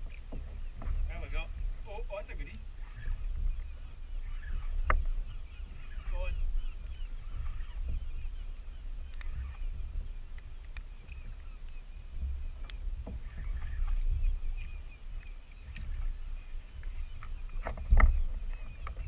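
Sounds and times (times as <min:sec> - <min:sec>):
low rumble on microphone: 0:00.0 - 0:19.0.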